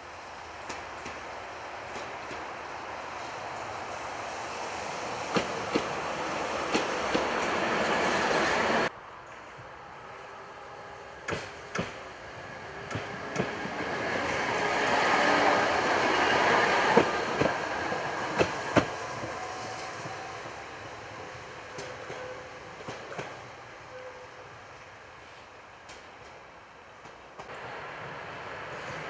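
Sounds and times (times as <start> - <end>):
tram rumbling past: 0.1 - 24.1.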